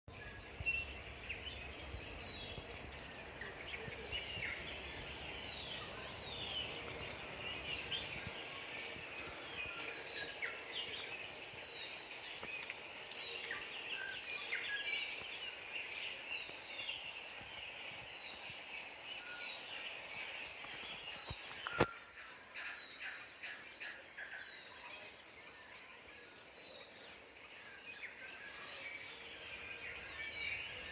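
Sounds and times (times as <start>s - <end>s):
songbirds chirping and whistling: 0.1s - 30.9s.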